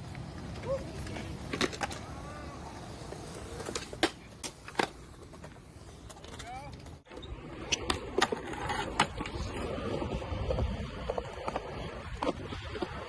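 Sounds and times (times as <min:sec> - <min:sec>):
skateboard wheels rolling on concrete: 0:00.0 - 0:13.0.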